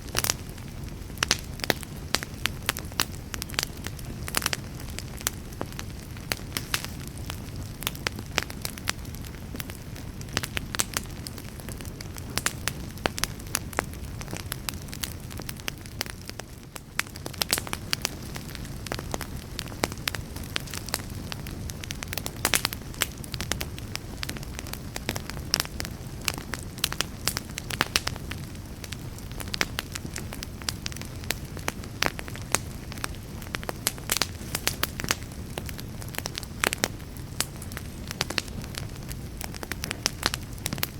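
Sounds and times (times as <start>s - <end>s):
fire crackling and popping: 0.0s - 40.9s
wood fire roaring: 0.0s - 40.9s.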